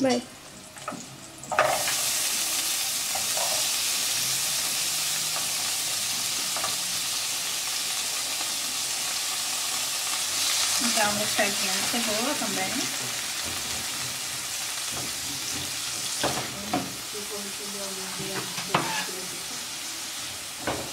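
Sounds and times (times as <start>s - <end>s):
onion sizzling in a frying pan: 0.0s - 20.9s.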